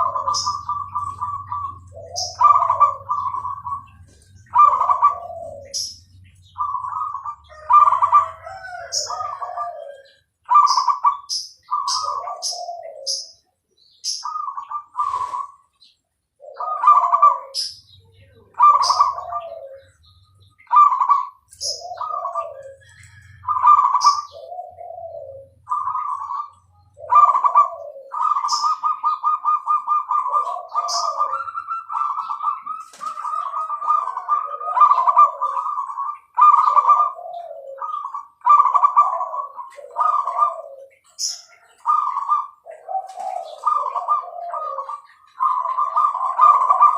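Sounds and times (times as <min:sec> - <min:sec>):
dove cooing: 0:00.0 - 0:46.9
small bird chirping: 0:00.0 - 0:46.9.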